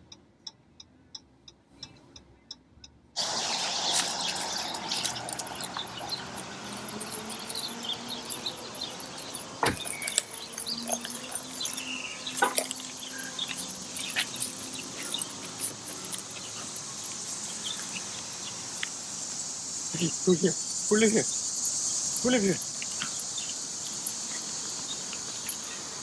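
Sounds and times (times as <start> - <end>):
dog collar tags jingling: 3.2 - 26.0
insect chorus: 3.2 - 26.0.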